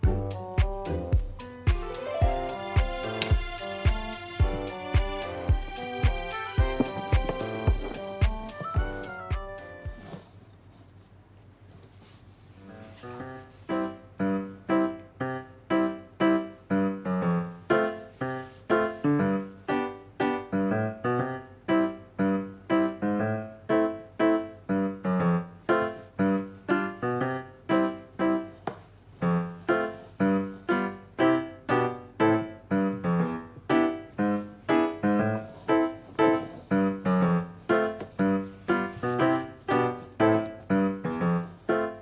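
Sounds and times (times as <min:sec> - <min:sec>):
piano melody: 0:00.0 - 0:10.2, 0:12.7 - 0:42.0.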